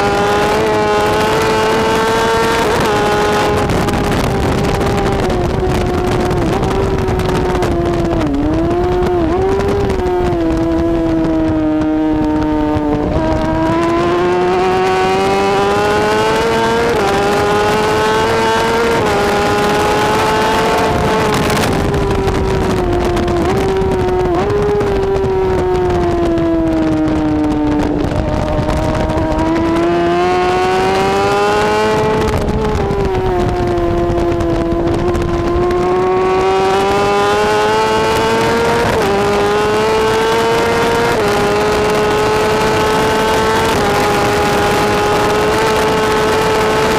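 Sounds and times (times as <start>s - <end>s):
motorcycle engine revving: 0.0s - 46.9s
wind and road noise: 0.0s - 46.9s.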